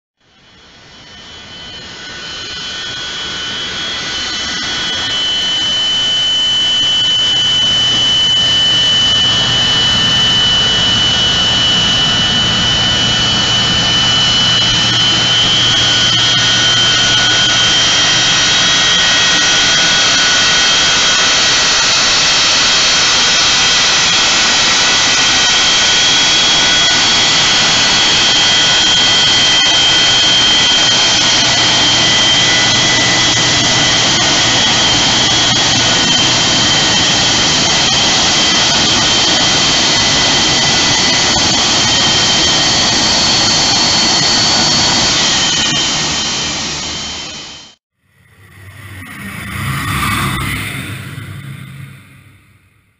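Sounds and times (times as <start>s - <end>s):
jet engines rushing and whining: 0.2s - 52.9s.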